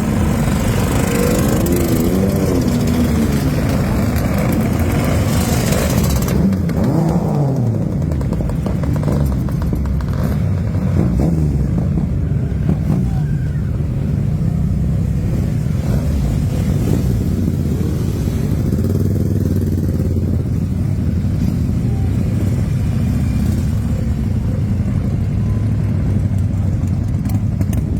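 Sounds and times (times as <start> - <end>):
motorcycles riding past: 0.0 - 27.9.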